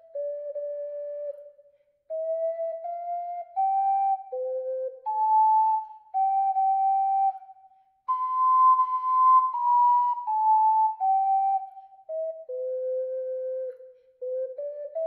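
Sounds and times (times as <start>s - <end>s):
ocarina melody: 0.0s - 15.0s.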